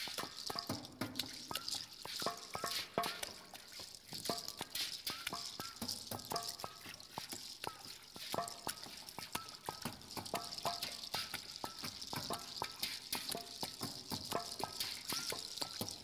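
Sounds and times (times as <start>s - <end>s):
plinking water drops: 0.0s - 16.0s
water pouring into metal bucket: 0.0s - 16.0s.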